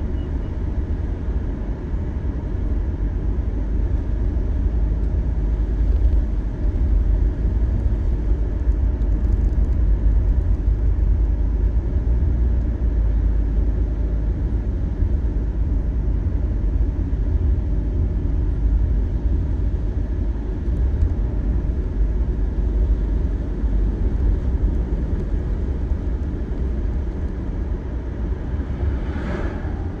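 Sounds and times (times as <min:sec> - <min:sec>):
car driving interior rumble: 0:00.0 - 0:30.0.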